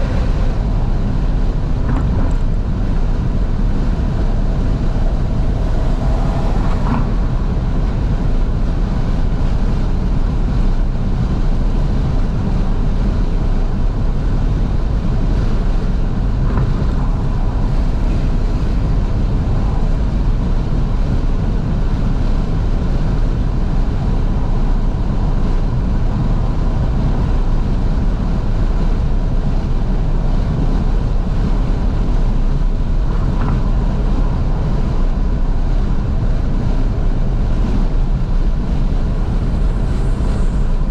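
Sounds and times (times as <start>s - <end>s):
wind and road noise in car: 0.0s - 40.9s.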